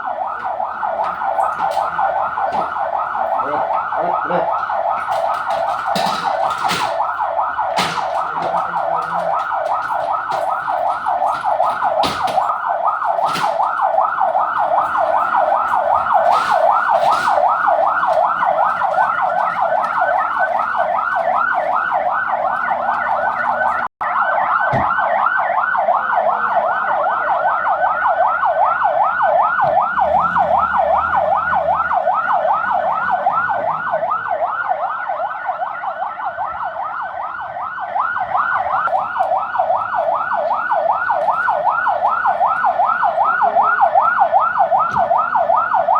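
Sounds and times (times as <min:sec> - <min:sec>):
electronic siren yelping: 0:00.0 - 0:45.9.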